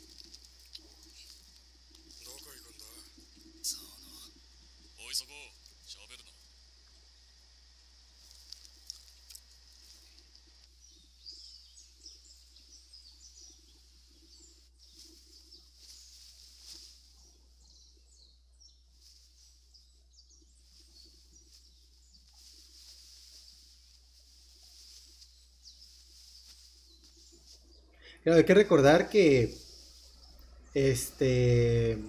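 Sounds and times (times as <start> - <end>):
birds chirping: 0.0 - 32.0
low hum: 0.0 - 32.0.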